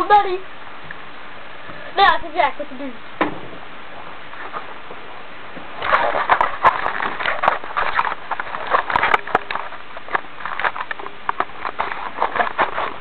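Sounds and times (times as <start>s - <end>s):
quiet hiss: 0.0s - 13.0s.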